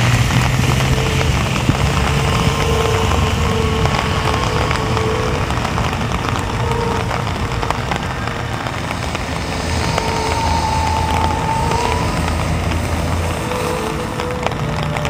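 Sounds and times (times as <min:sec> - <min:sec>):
heavy rain falling: 0:00.0 - 0:15.0
low hum: 0:00.0 - 0:15.0.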